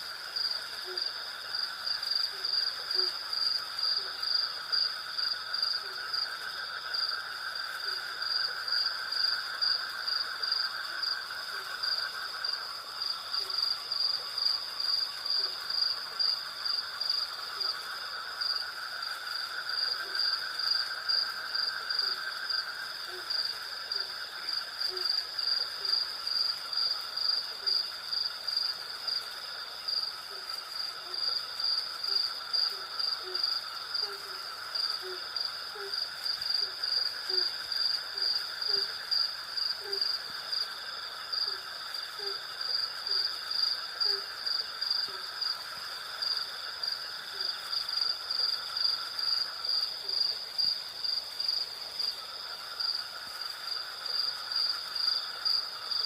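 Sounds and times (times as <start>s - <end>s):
low continuous insect trill: 0.0s - 56.0s
pulsing high insect chirp: 0.0s - 56.0s
steady high insect trill: 0.0s - 56.0s.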